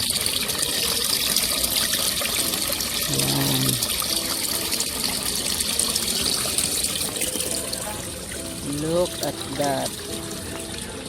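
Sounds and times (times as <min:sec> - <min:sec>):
running water splashing: 0:00.0 - 0:11.0.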